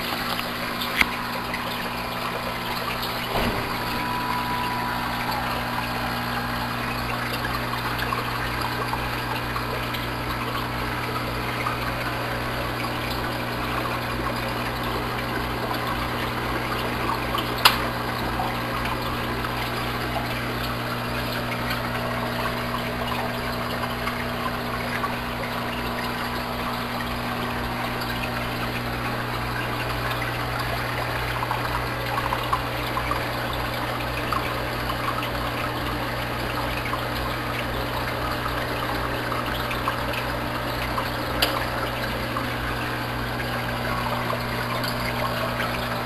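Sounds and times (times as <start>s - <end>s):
air pumps humming: 0.0s - 46.0s
water bubbling and trickling: 0.0s - 46.0s.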